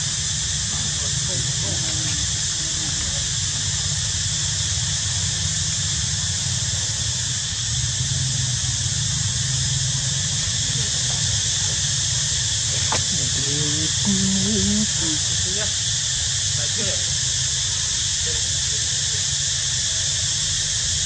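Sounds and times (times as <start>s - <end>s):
high-pitched hissing drone: 0.0s - 21.0s.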